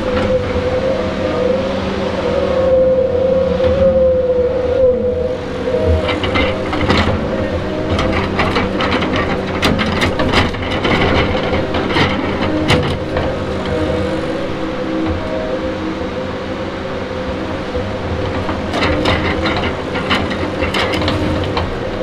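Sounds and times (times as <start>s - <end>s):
log loader engine running: 0.0s - 22.0s.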